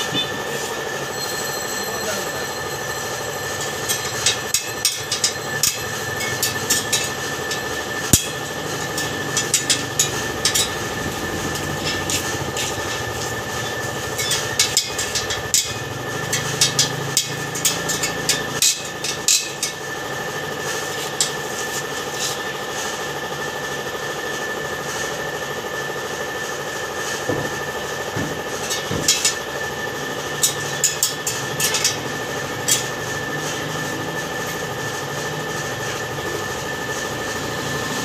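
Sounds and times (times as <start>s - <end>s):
steady engine-like hum: 0.0s - 38.0s.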